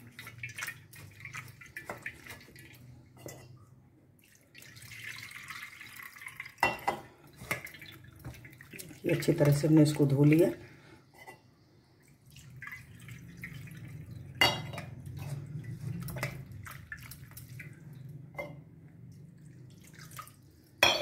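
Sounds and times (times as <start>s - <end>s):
water dripping and trickling: 0.0s - 3.6s, 4.2s - 10.6s, 12.0s - 20.8s.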